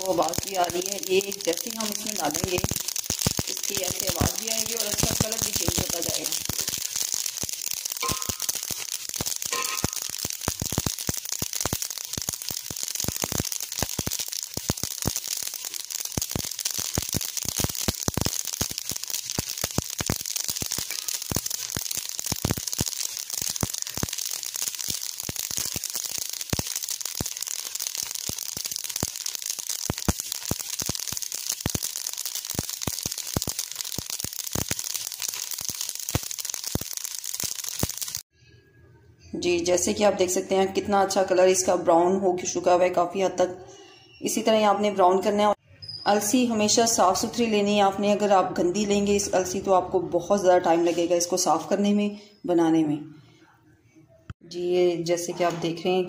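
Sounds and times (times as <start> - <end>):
seeds crackling and popping in pot: 0.0 - 38.3, 44.2 - 51.8.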